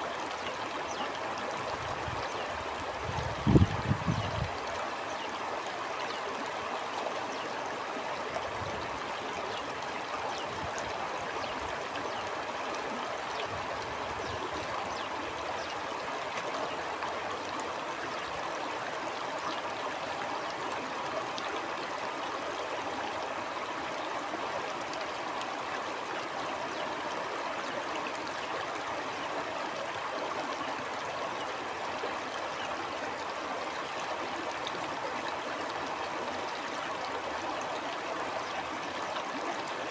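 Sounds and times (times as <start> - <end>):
shallow stream trickling and gurgling: 0.0 - 39.9.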